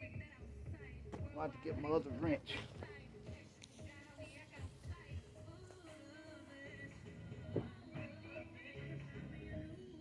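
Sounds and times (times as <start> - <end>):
music with steady melody: 0.0 - 10.0.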